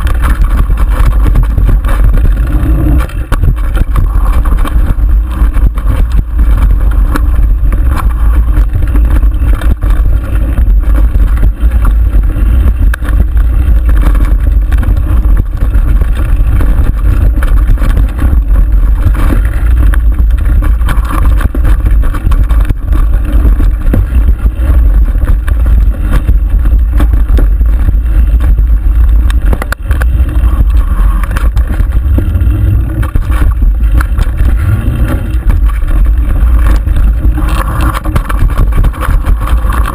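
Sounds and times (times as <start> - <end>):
bike rattling and knocking: 0.0 - 39.9
wind and trail rumble: 0.0 - 39.9.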